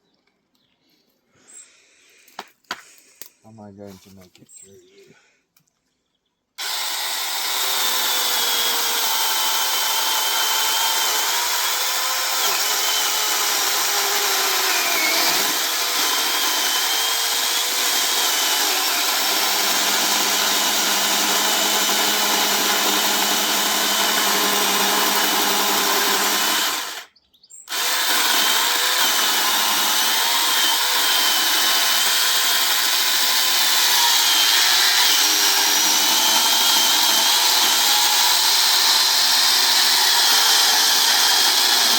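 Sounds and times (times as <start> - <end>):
mini chainsaw cutting wood: 6.6 - 27.1, 27.7 - 41.9.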